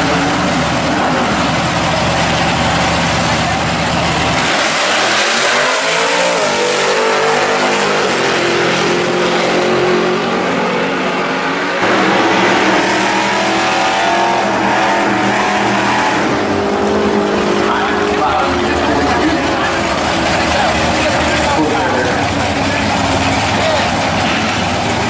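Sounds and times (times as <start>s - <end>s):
drag car engines at starting line: 0.0s - 25.0s
drag racing cars launching: 0.0s - 25.0s.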